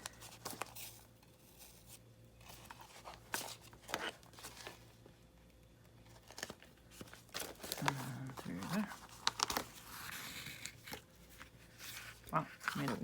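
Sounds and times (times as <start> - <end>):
paper rustling and crinkling: 0.0 - 5.1, 6.0 - 13.0.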